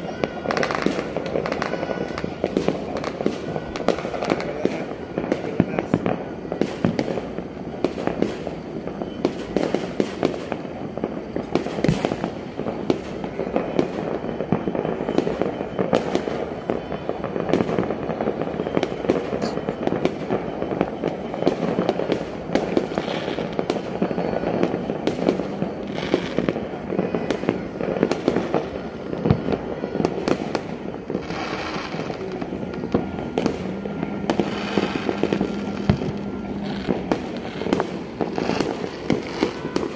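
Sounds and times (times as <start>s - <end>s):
fireworks crackling and popping: 0.0s - 39.9s
sharp firecracker bangs: 0.0s - 39.9s.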